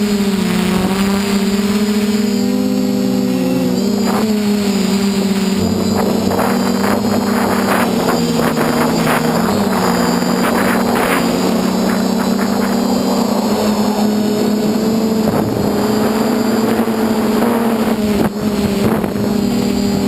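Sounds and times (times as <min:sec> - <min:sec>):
drone propellers buzzing: 0:00.0 - 0:20.0
wind gusts on microphone: 0:03.8 - 0:20.0.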